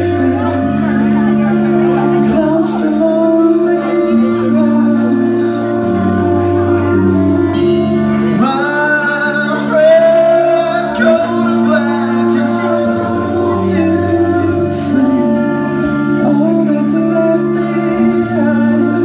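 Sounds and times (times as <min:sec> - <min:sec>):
person singing: 0:00.0 - 0:19.0
rock band with electric guitars: 0:00.0 - 0:19.0.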